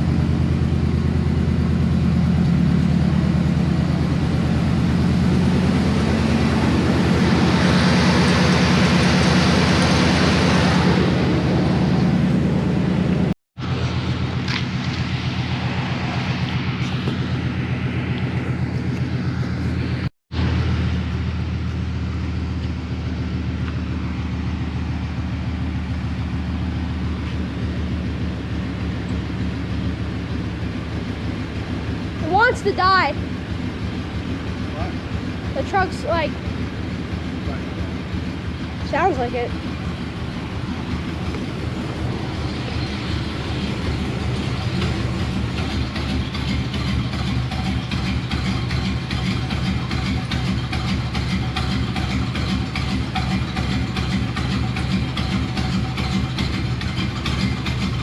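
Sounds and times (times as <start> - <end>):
pickup truck engine running: 0.0 - 58.0.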